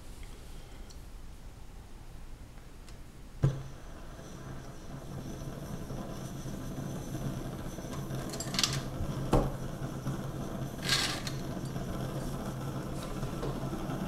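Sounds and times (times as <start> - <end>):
stove burning hum: 0.0 - 14.0.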